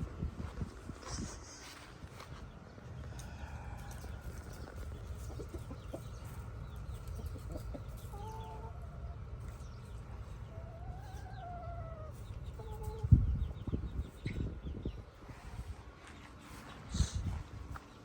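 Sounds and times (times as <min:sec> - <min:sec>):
chickens clucking and calling: 0:00.0 - 0:18.0
steady low rumble: 0:00.0 - 0:18.0.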